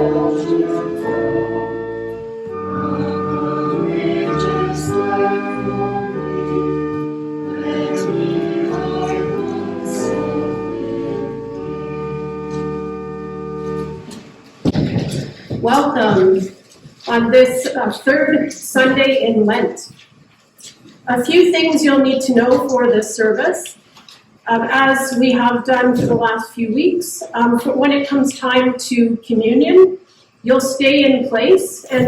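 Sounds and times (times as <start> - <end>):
slow hymn music: 0.0 - 32.0.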